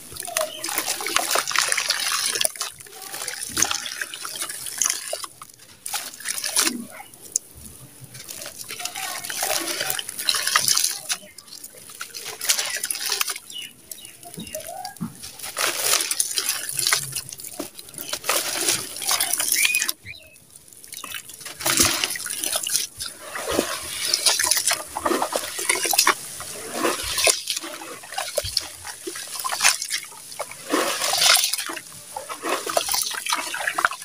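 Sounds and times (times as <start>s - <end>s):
clumps splashing into water: 0.0s - 34.0s
wet sand squelching and crumbling: 0.0s - 34.0s.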